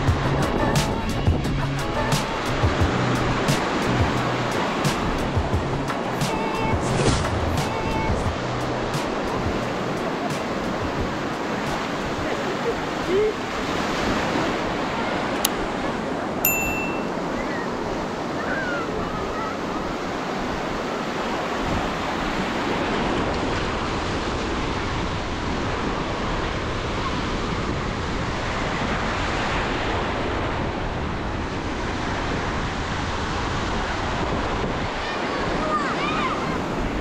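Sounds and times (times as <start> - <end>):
small waves breaking on sand: 3.3 - 37.0.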